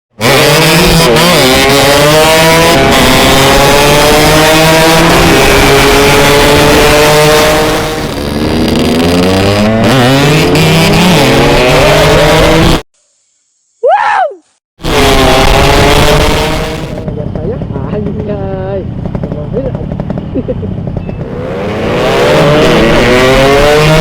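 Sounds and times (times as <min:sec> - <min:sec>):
motorcycle engine revving high: 0:00.1 - 0:12.8, 0:14.8 - 0:18.2, 0:18.8 - 0:24.0.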